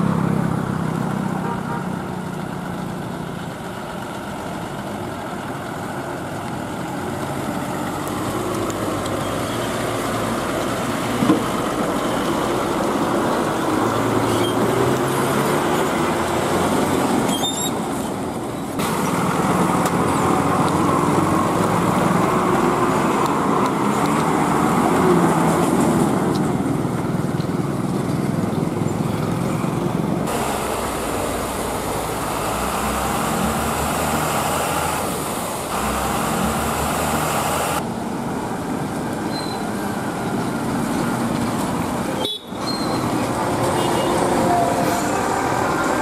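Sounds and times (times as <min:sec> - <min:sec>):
diesel truck engines passing: 0:00.0 - 0:46.0
tyre and road noise: 0:00.0 - 0:46.0.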